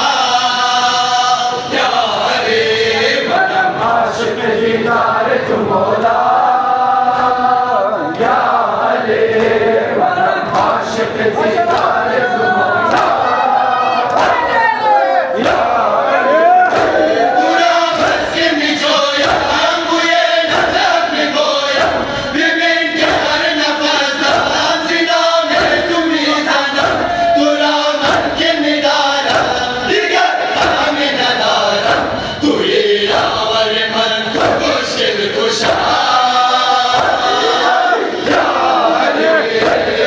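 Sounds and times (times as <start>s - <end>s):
men chanting: 0.0s - 40.0s.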